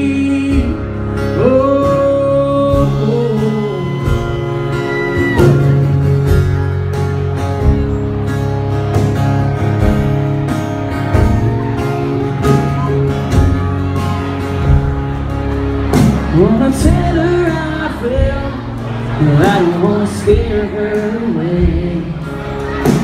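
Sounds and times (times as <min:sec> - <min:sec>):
acoustic guitars strummed: 0:00.0 - 0:23.0.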